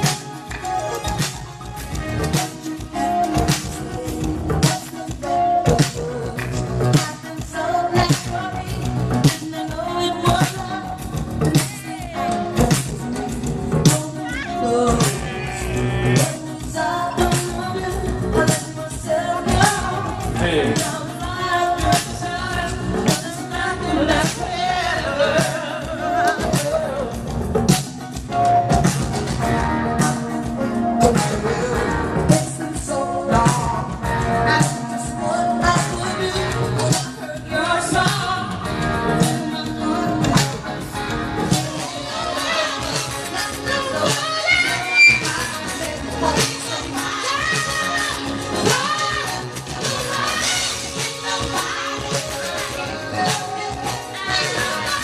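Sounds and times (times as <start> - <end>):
person singing: 0.0 - 27.2, 29.8 - 55.0
live band playing: 0.0 - 55.0.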